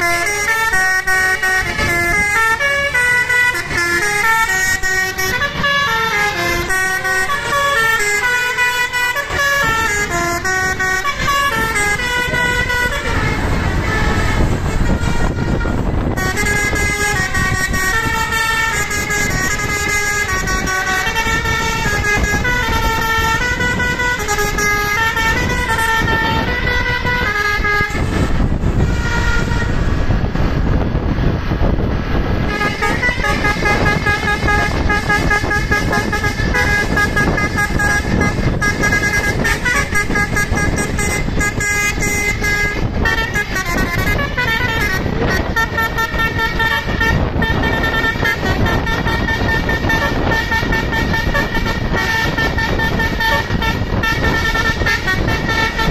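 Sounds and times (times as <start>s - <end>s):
bus engine and road noise: 0.0s - 55.9s
musical bus horn tune: 0.0s - 55.9s.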